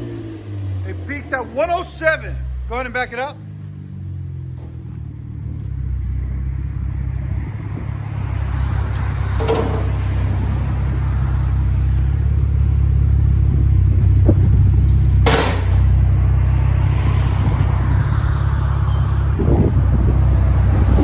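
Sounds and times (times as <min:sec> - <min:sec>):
car engine rumbling at low revs: 0:00.0 - 0:21.0.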